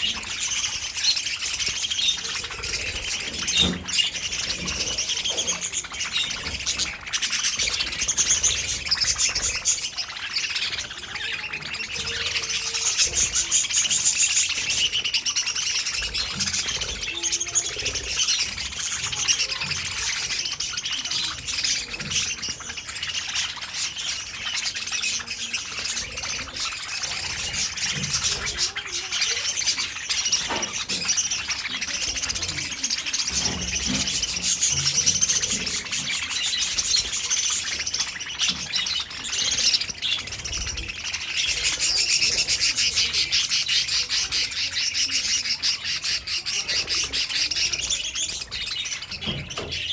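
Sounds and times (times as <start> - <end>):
budgerigars chirping and warbling: 0.0 - 49.9.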